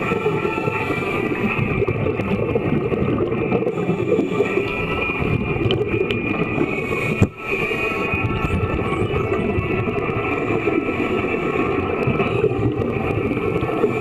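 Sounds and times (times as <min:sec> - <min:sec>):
faint high whine: 0:00.0 - 0:14.0
underwater water churning and bubbles: 0:00.0 - 0:14.0.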